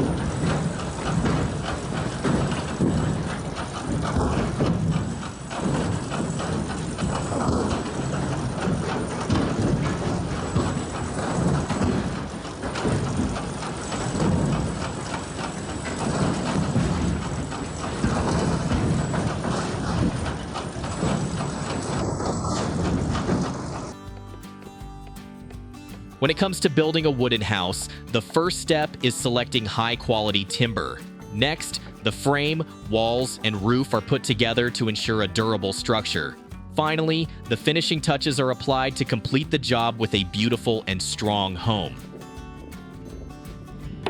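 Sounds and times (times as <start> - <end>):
firewood processing machine running: 0.0 - 44.0.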